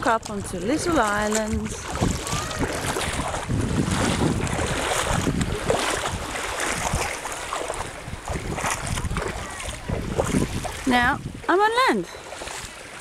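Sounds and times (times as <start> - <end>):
water sloshing around wading legs: 0.0 - 13.0
wind buffeting microphone: 0.0 - 13.0.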